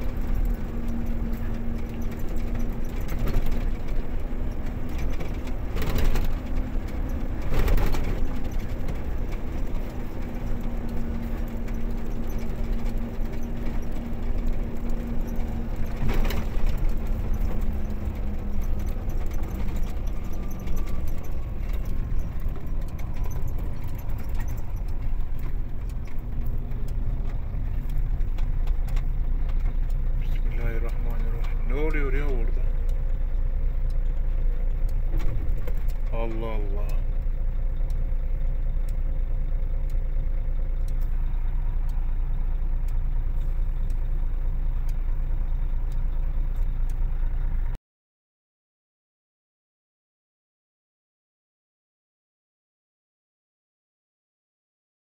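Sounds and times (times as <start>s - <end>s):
engine hum: 0.0s - 47.8s
vehicle road rumble: 0.0s - 47.8s.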